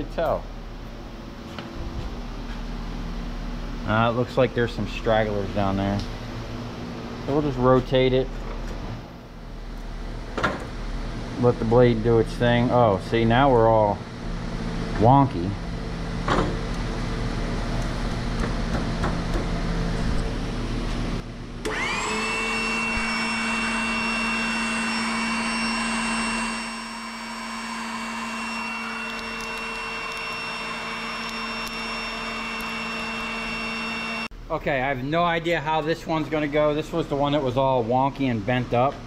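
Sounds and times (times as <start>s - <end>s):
hydraulic power unit whine: 0.0s - 39.0s.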